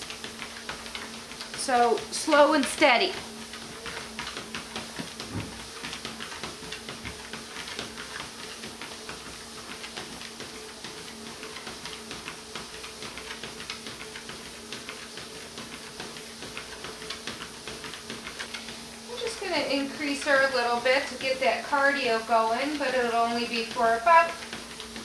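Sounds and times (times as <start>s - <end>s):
dog paws tapping on treadmill: 0.0s - 25.0s
treadmill motor hum: 0.0s - 25.0s.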